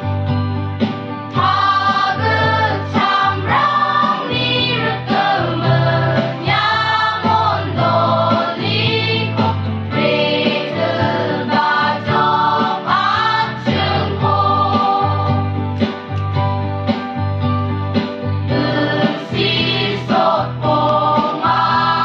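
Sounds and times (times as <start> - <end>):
choir singing in parts: 1.3 - 15.6, 18.5 - 22.0.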